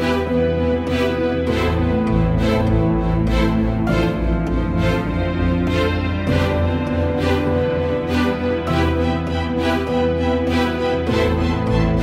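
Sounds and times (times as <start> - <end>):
background music with held chords: 0.0 - 12.0.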